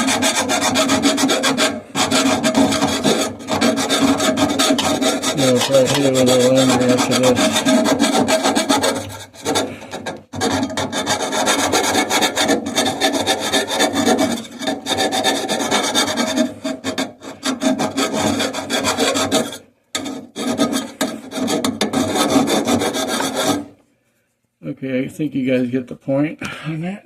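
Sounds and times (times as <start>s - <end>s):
hand file rasping on pipe: 0.0s - 23.8s.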